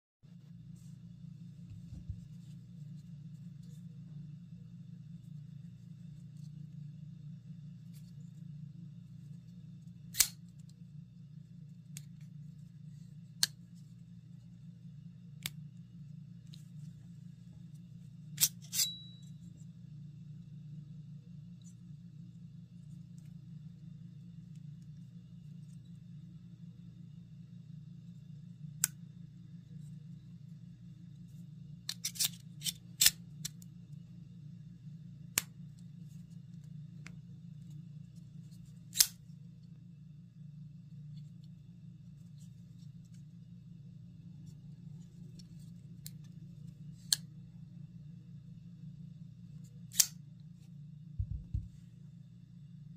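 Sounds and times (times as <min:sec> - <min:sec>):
steady low hum: 0:00.2 - 0:52.9.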